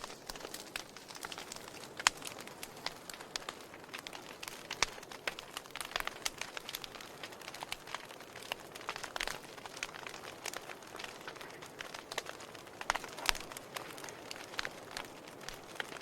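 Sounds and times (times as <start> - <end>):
sharp pops of fire: 0.0 - 16.0
soft steady hiss: 0.0 - 16.0
wood fire crackling: 0.0 - 16.0.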